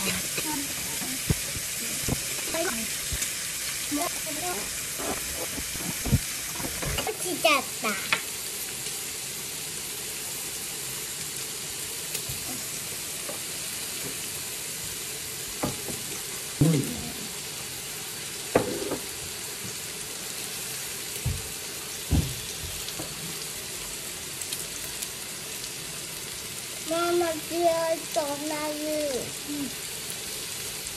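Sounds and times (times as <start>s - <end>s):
meat sizzling on a griddle: 0.0s - 30.9s.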